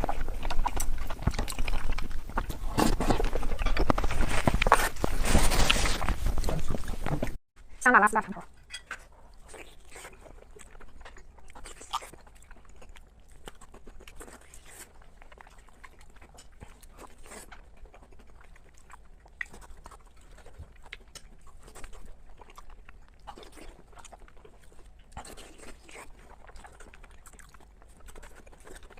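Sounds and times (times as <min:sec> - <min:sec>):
person chewing food: 0:00.0 - 0:07.4, 0:08.5 - 0:28.9.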